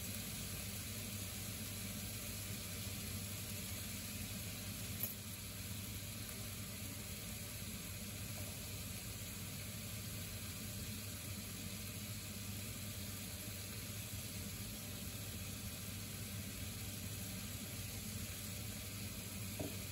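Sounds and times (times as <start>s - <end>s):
chicken frying in a pan: 0.0s - 19.9s.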